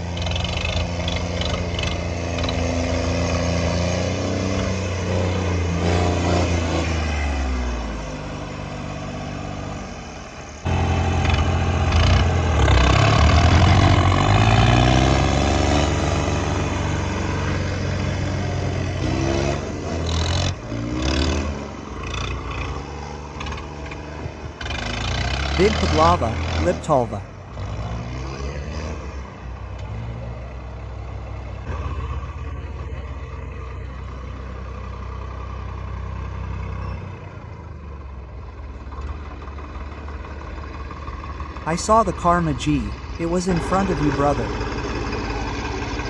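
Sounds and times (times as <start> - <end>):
tractor diesel engines revving: 0.0 - 46.0.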